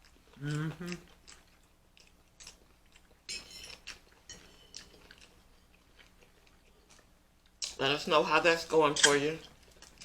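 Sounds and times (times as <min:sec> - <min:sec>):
person chewing food: 0:00.0 - 0:07.8, 0:09.0 - 0:10.0.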